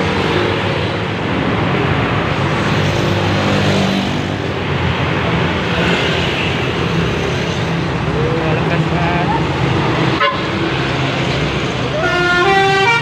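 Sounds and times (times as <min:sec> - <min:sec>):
road and traffic noise: 0:00.0 - 0:13.0.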